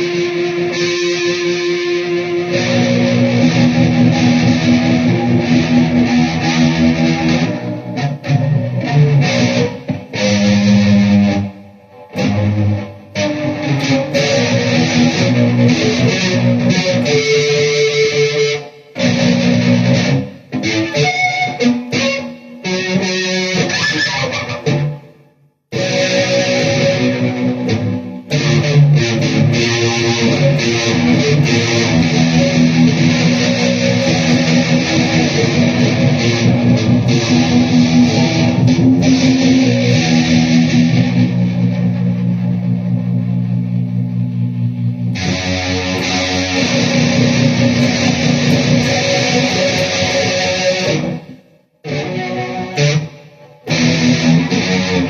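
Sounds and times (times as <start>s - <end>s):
electric guitar strumming chords: 0.0s - 55.0s.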